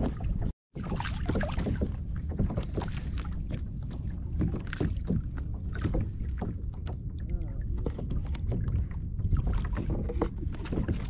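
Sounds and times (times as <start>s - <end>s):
water lapping and splashing: 0.0s - 11.0s
wind buffeting microphone: 0.0s - 11.0s.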